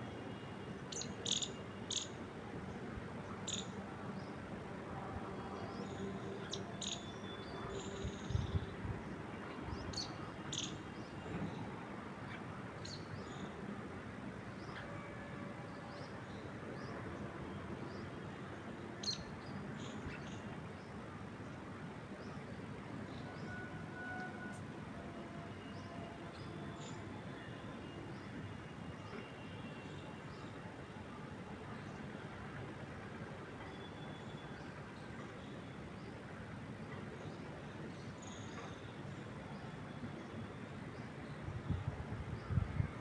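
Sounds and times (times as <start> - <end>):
wind moving through trees: 0.0 - 43.0.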